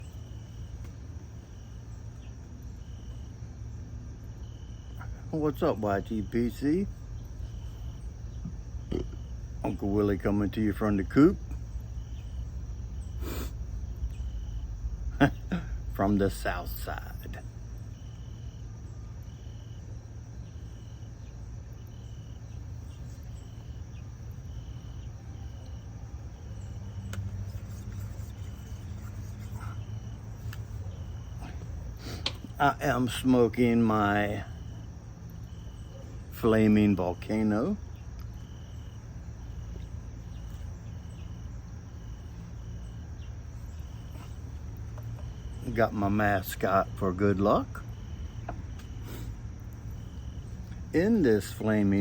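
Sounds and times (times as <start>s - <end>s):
cricket chirping: 0.0s - 52.0s
low steady hum: 0.0s - 52.0s.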